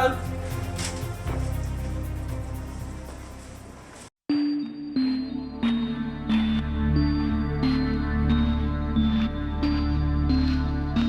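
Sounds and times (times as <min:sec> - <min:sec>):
background music with deep bass: 0:00.0 - 0:04.1, 0:04.7 - 0:11.0.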